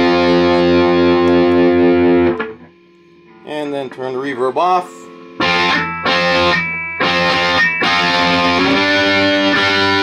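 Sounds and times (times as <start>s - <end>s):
distorted electric guitar chords: 0.0s - 4.0s, 4.8s - 10.0s.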